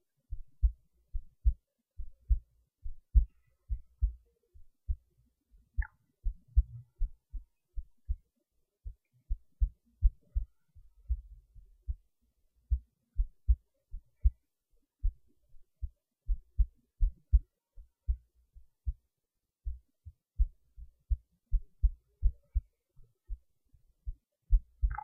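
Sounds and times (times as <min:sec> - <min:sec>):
heartbeat thumps: 0:00.3 - 0:14.4, 0:15.0 - 0:25.0.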